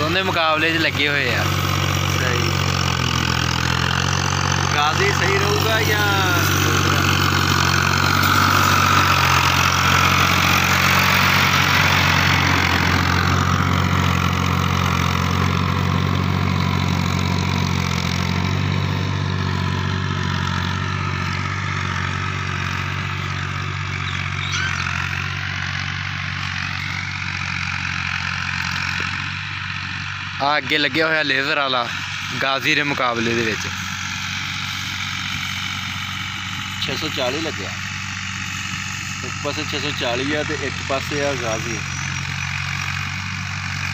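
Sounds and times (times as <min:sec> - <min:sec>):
diesel tractor running under load: 0:00.0 - 0:43.9.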